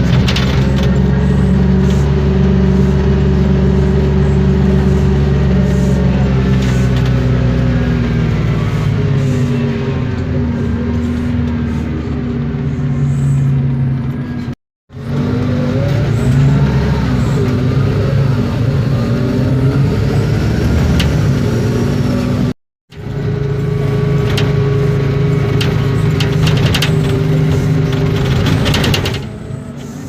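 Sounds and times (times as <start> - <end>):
bus diesel engine running: 0.0 - 30.0
gearbox whine: 0.0 - 30.0.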